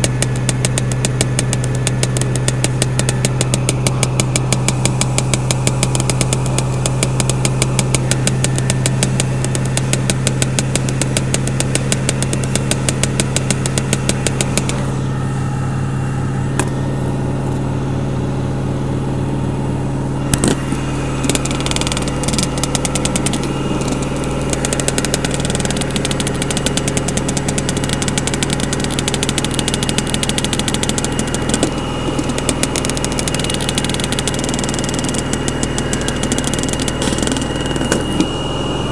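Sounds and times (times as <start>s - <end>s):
spinning drum rattling: 0.0s - 14.8s, 21.1s - 38.0s
washing machine motor hum: 0.0s - 38.9s.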